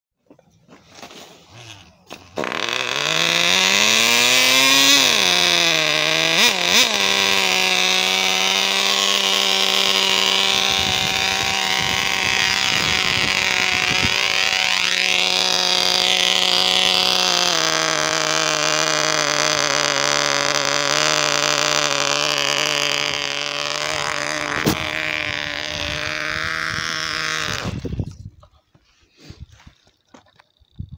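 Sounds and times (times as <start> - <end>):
small two-stroke engine buzzing: 0.9 - 28.2, 29.6 - 30.9.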